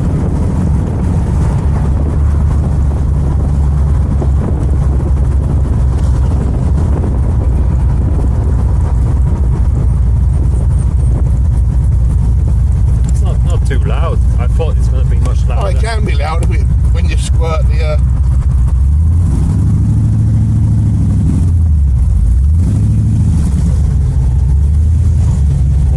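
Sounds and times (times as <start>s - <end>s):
car engine idling low revs: 0.0s - 25.9s.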